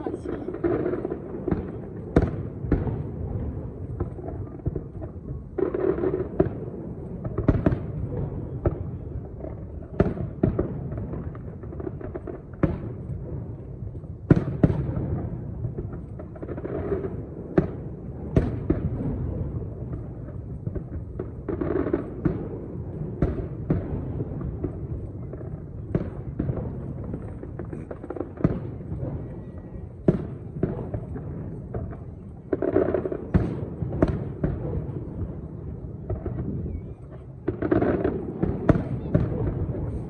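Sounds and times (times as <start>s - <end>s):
fireworks sharp bangs: 0.0s - 40.0s.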